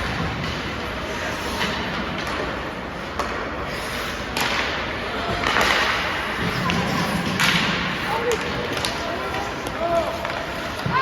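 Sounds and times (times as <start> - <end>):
hockey play cracks and thuds: 0.0 - 11.0.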